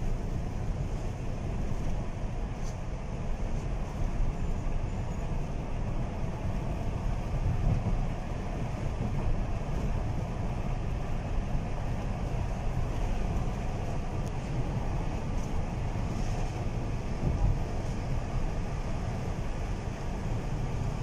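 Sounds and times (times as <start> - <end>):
car engine rumble from inside: 0.0 - 21.0.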